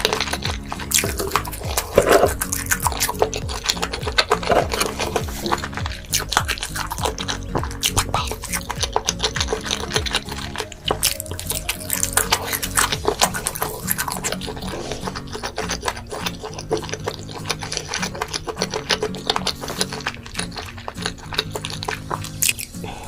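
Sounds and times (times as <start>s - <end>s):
background music: 0.0s - 23.0s
crunching and chewing: 0.0s - 23.0s.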